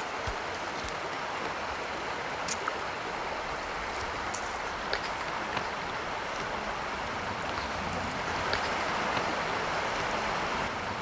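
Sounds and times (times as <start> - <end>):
river running over stones: 0.0 - 11.0.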